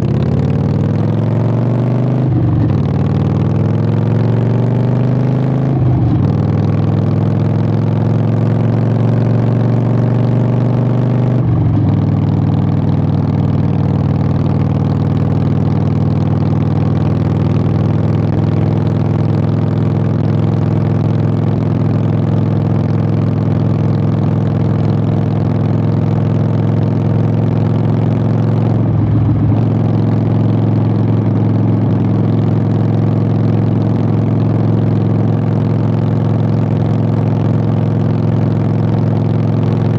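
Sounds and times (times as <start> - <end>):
motorcycle engine riding along: 0.0 - 39.9.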